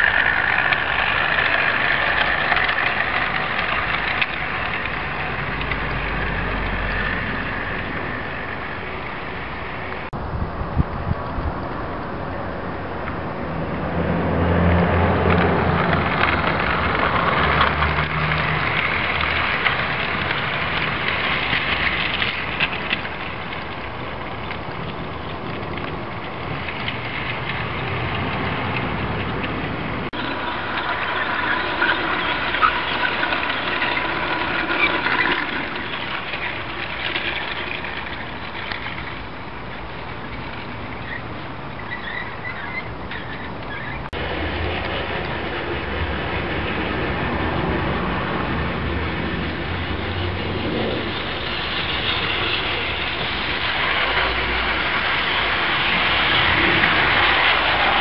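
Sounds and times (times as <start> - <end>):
model train motor hum: 0.0 - 10.1, 13.8 - 58.0
wagon wheels rattling on rails: 0.0 - 10.1, 14.2 - 58.0.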